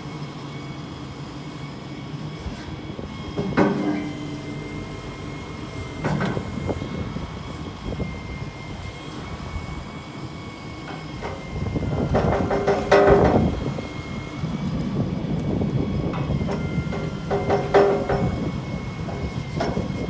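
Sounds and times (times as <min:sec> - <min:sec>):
excavator diesel engine and hydraulics: 0:00.0 - 0:20.0
steady high whine: 0:00.0 - 0:20.0.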